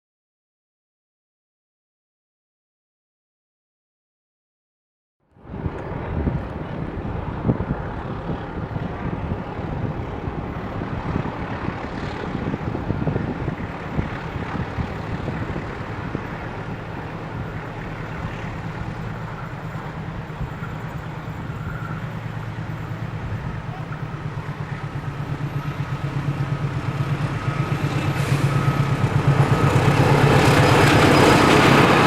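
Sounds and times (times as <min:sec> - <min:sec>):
low engine hum: 0:05.4 - 0:32.0
passenger train rumbling: 0:05.4 - 0:32.0.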